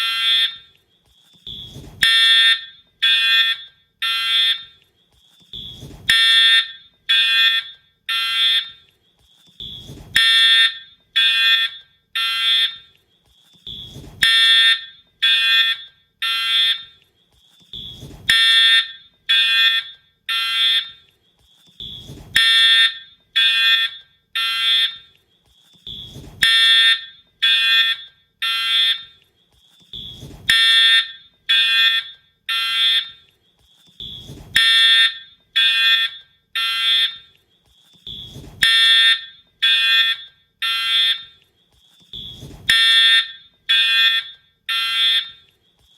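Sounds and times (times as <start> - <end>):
harsh fire alarm horn blasts: 0.0 - 0.8, 1.4 - 4.8, 5.5 - 8.9, 9.6 - 13.0, 13.6 - 17.0, 17.7 - 21.1, 21.8 - 25.2, 25.8 - 29.2, 29.9 - 33.3, 34.0 - 37.4, 38.0 - 41.4, 42.1 - 45.5.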